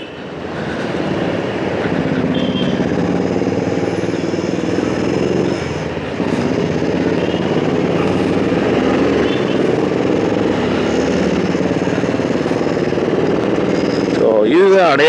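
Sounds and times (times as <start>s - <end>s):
road noise: 0.0s - 15.0s
motorcycle engine running: 1.8s - 14.3s.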